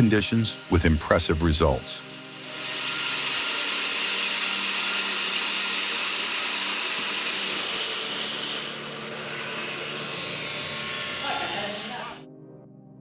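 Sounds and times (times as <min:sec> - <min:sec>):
saw cutting through log: 0:00.0 - 0:12.2.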